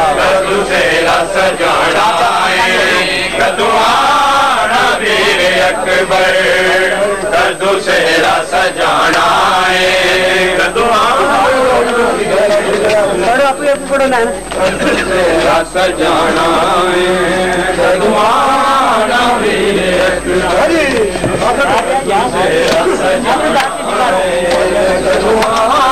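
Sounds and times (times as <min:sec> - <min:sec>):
men chanting a lament: 0:00.0 - 0:25.9.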